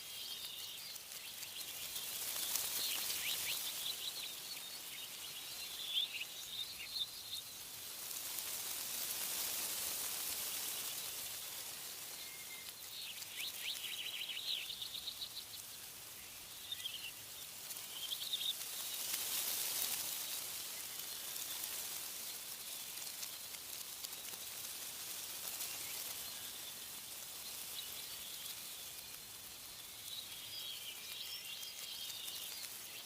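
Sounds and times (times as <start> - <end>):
small birds chirping: 0.0 - 33.0
wind rustling tree leaves: 0.0 - 33.0.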